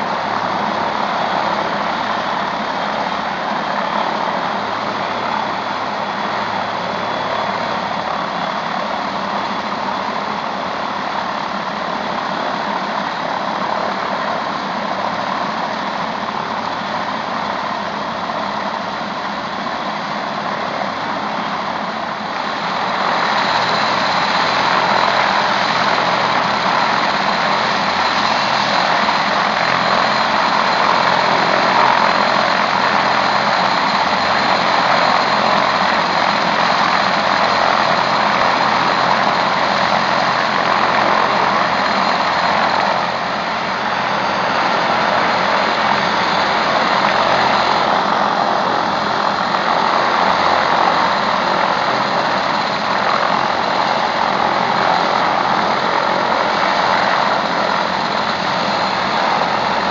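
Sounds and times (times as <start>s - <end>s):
helicopter running on ground: 0.0s - 59.9s
turbine whine: 0.0s - 59.9s.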